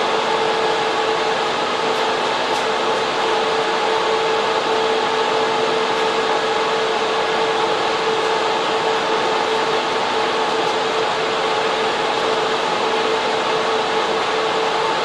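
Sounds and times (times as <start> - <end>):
cooling fans rushing air: 0.0 - 15.0
mid-pitched hum: 0.0 - 15.0.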